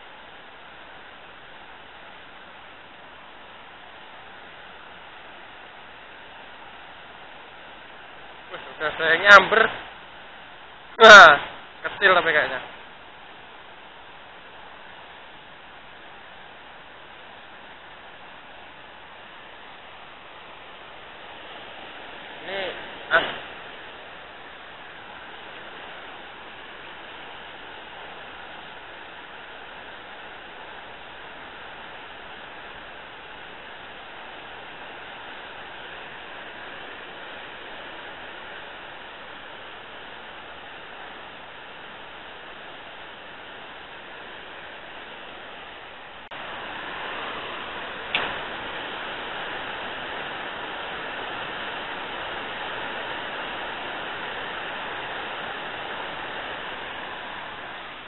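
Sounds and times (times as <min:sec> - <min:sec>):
water rushing over weir: 0:00.0 - 0:58.0.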